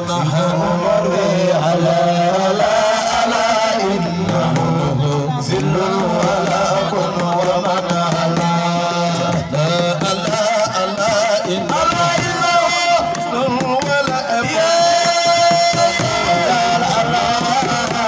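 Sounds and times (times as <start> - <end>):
men singing through microphones: 0.0 - 18.0
light percussive beat: 0.1 - 18.0.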